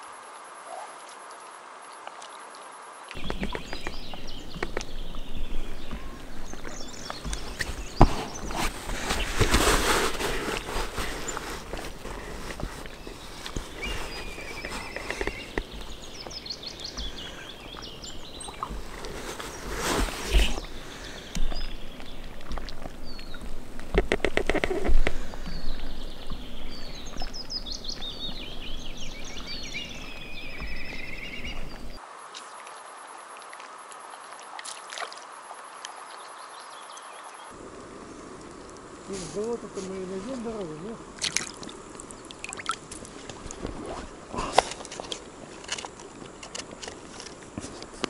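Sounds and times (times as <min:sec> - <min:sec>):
songbirds singing: 0:02.3 - 0:32.6, 0:35.4 - 0:43.5.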